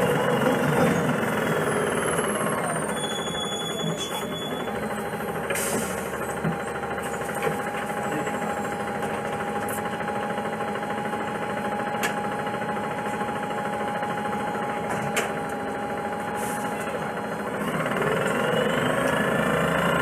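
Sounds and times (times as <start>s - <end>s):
bus engine idling: 0.0s - 20.0s
constant whining tone: 0.0s - 20.0s.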